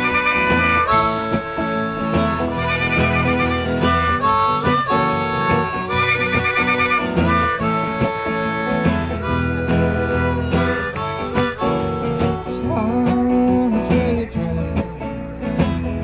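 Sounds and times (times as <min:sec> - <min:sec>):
harmonica playing: 0:00.0 - 0:13.5.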